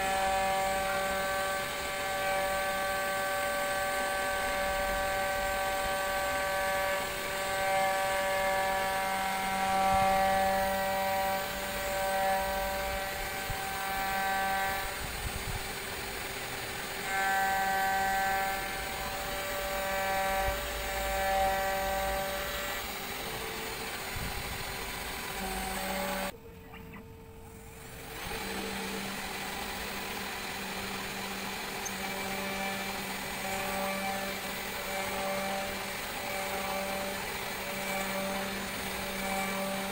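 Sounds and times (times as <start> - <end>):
router spindle milling plastic: 0.0 - 26.4, 27.8 - 39.9.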